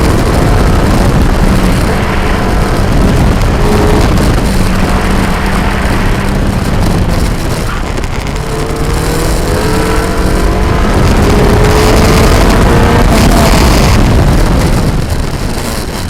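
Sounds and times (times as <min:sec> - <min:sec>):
car engine at full throttle: 0:00.0 - 0:16.0
wind noise on microphone: 0:00.0 - 0:16.0.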